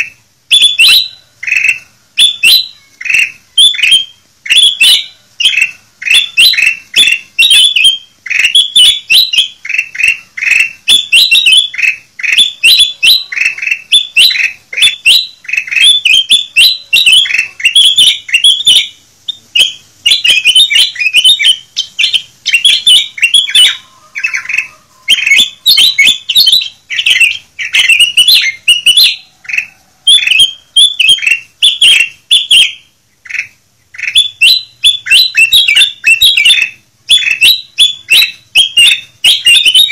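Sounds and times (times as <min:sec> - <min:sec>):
bulbul chirping and twittering: 0:00.0 - 0:39.9.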